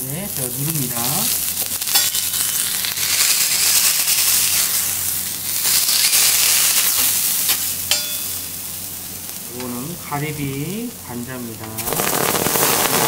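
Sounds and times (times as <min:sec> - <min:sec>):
shrimp sizzling on a griddle: 0:00.0 - 0:10.8, 0:11.4 - 0:13.0.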